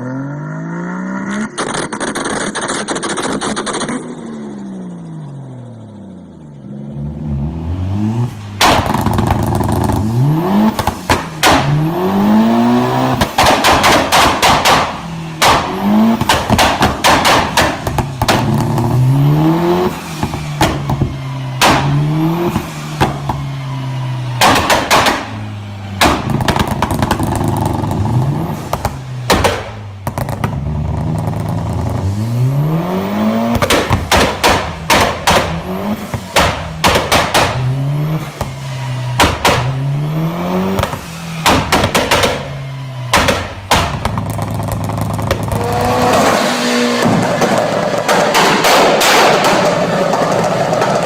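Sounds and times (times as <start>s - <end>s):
car engines revving: 0.0s - 51.0s
exhaust backfire pops: 1.3s - 4.4s, 8.2s - 51.0s.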